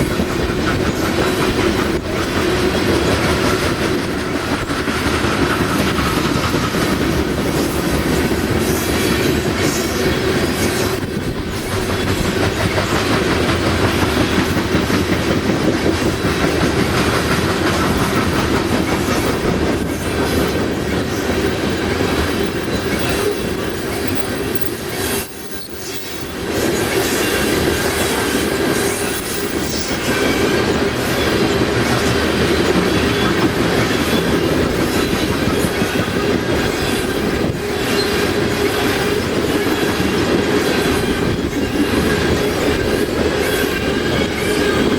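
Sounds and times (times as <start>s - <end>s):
clickety-clack over rail joints: 0.0s - 44.9s
train wheels rumbling on rail: 0.0s - 44.9s.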